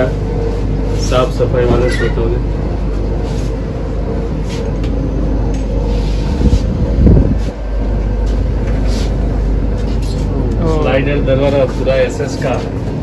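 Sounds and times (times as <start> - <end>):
low mechanical hum: 0.0 - 13.0
low rumble: 0.0 - 13.0.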